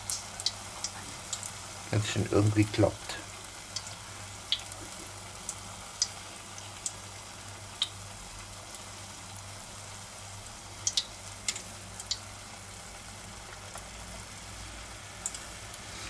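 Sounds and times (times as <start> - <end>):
oil sizzling while deep-frying: 0.0 - 16.0.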